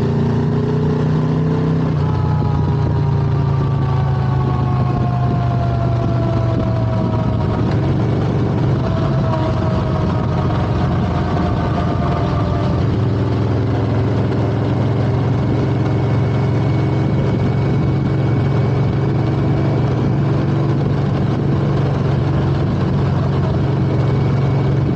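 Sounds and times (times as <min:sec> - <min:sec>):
high engine whine: 0:00.0 - 0:24.9
motorcycle engine exhaust note: 0:00.0 - 0:24.9.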